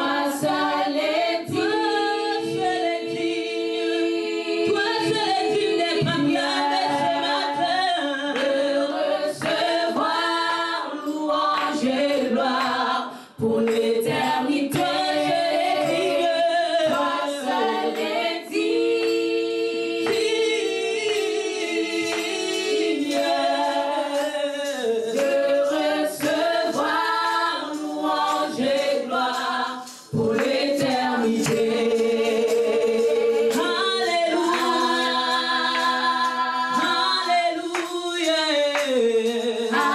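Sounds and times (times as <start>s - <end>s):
group singing a cappella: 0.0s - 39.9s.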